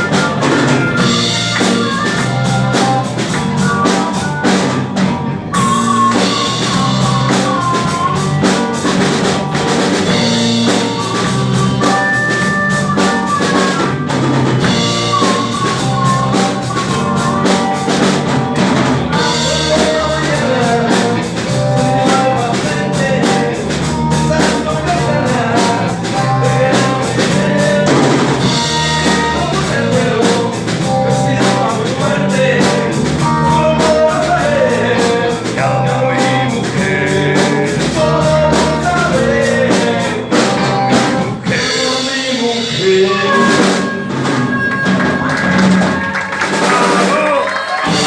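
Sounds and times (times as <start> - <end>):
harmonica melody: 0.0 - 4.8, 5.4 - 45.8
drum kit beat with cymbals: 0.0 - 48.0
rhythm and blues band playing: 0.0 - 48.0.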